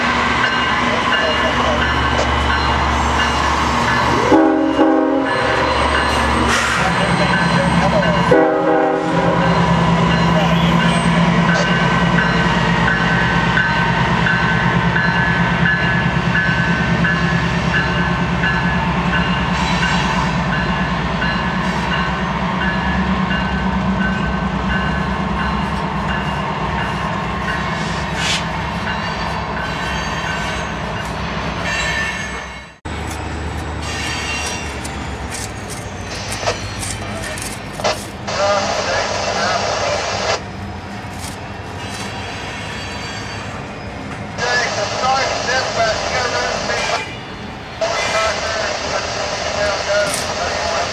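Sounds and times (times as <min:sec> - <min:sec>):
locomotive engine drone: 0:00.0 - 0:50.9.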